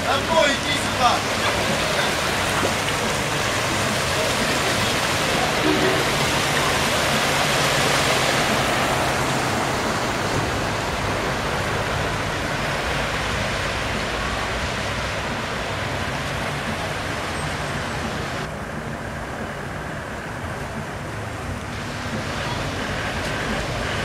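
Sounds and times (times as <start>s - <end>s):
cars splashing through floodwater: 0.0s - 24.0s.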